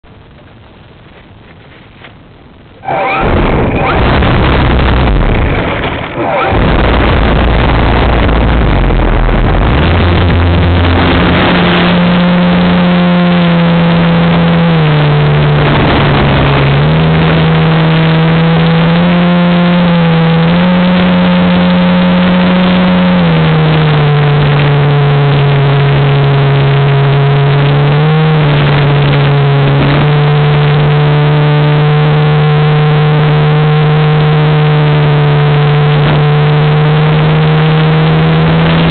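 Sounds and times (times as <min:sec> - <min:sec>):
wind rush on microphone: 0:00.2 - 0:38.9
electric motor and propeller: 0:02.8 - 0:38.9.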